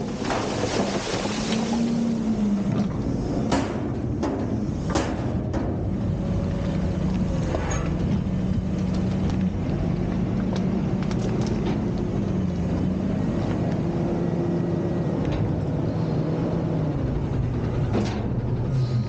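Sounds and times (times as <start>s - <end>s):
garbage truck engine and hydraulics: 0.0s - 19.0s.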